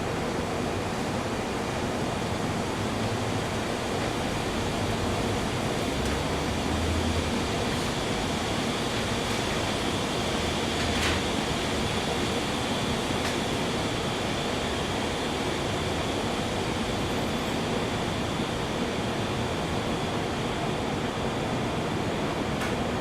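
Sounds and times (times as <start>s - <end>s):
steady pink noise hiss: 0.0s - 23.0s.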